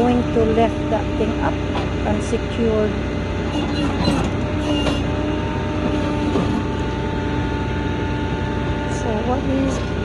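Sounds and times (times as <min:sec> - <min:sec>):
tow truck engine humming: 0:00.0 - 0:10.0.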